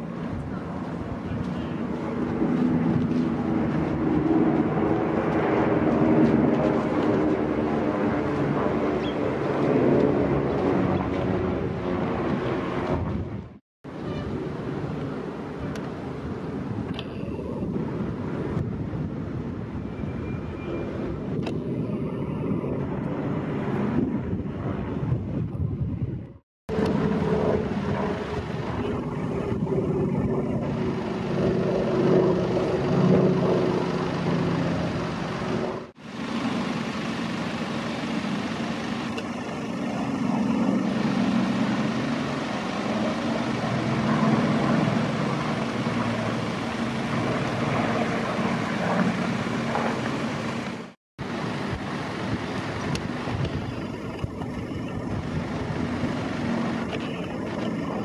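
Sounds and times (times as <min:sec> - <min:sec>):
propeller aircraft engines droning: 0:00.0 - 0:58.0.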